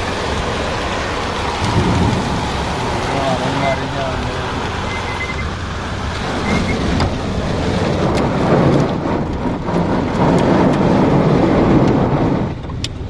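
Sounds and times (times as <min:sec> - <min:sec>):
hailstones striking car: 0:00.0 - 0:13.0
heavy rain on car roof: 0:00.0 - 0:13.0.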